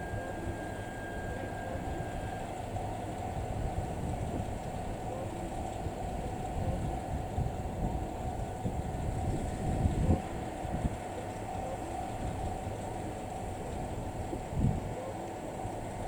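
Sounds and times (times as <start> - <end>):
diesel train rumble: 0.0 - 14.9
faint steady hum: 0.0 - 16.0.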